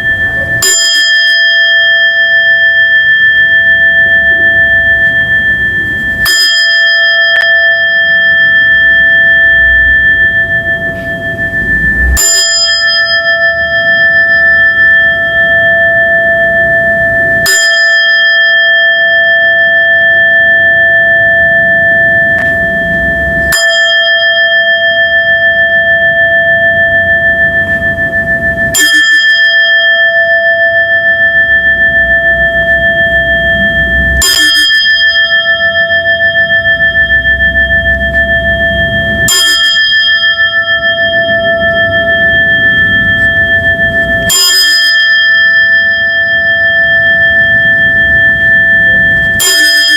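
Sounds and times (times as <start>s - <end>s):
bell struck and ringing: 0.0s - 49.9s.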